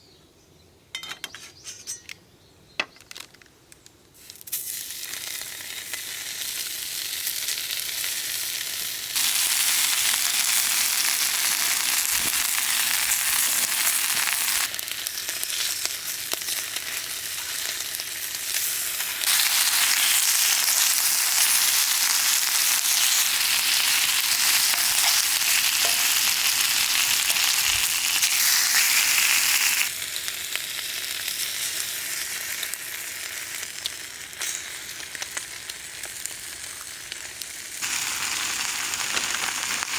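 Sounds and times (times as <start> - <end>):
food sizzling in a pan: 4.2 - 39.9.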